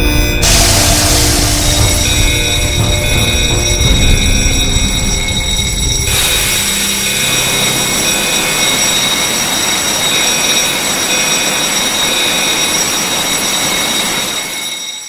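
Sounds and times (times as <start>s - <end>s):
faint high tones: 0.0s - 15.0s
loud rushing jet of air: 0.4s - 14.4s.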